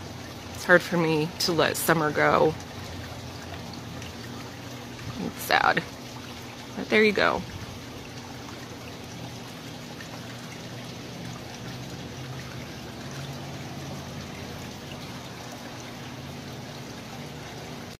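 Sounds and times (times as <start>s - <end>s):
low steady hum: 0.0s - 18.0s
water trickling into pond: 0.0s - 18.0s.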